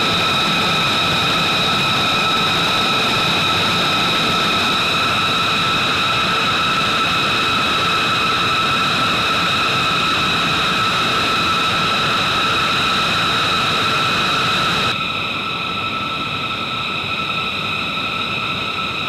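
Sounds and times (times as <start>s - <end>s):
jet engines idling with high whine: 0.0s - 19.0s.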